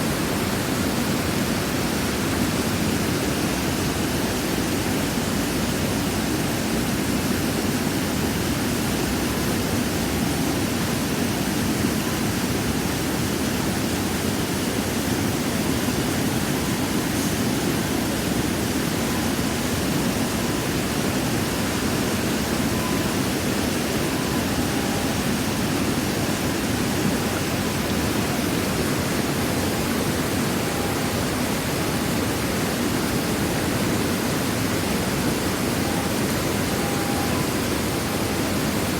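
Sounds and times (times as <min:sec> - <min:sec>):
falling water rushing: 0:00.0 - 0:38.9.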